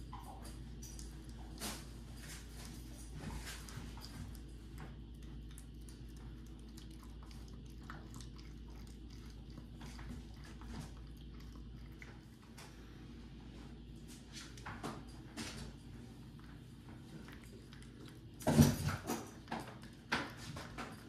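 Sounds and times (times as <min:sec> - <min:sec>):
puppy chewing and lapping food: 0:00.0 - 0:21.0.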